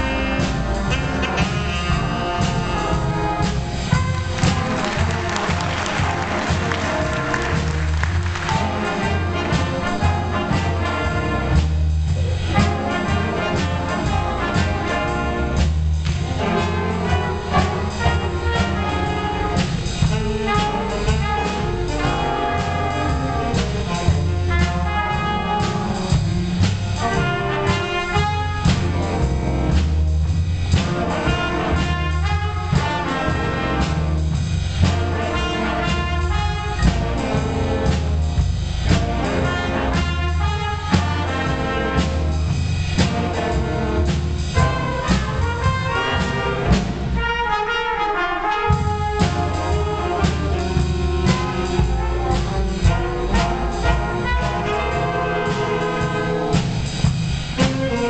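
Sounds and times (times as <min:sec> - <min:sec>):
jazz big band playing blues: 0:00.0 - 0:58.0.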